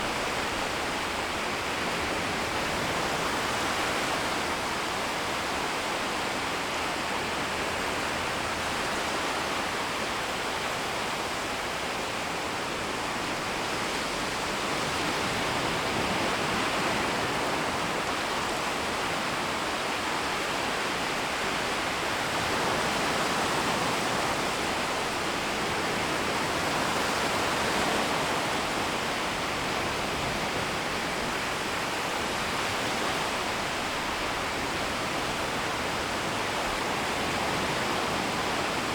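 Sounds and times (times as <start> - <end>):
shallow waves washing on shore: 0.0 - 38.9.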